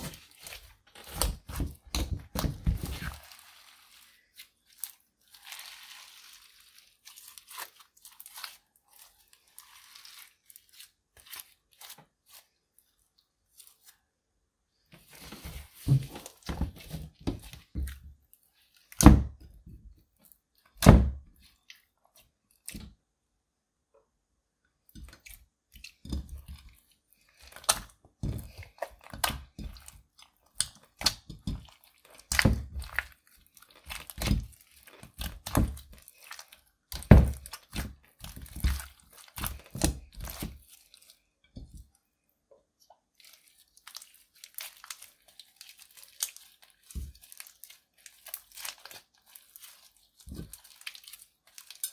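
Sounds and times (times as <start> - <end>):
slime squelching: 0.0 - 14.2, 15.0 - 23.0, 24.9 - 51.9.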